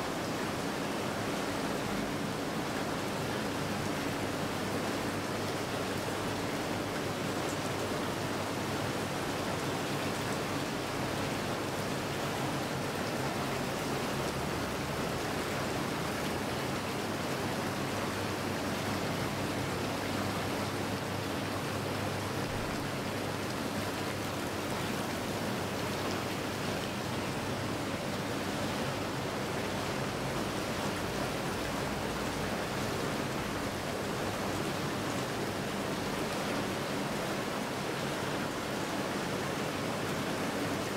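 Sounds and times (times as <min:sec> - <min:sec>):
hot tub jets churning water: 0:00.0 - 0:40.9.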